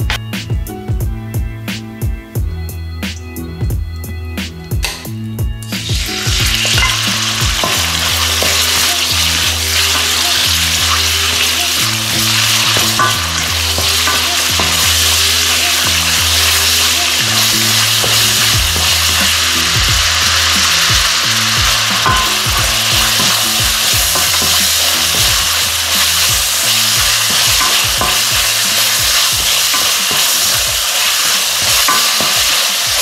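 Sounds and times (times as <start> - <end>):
meat sizzling in oil: 5.7 - 33.0.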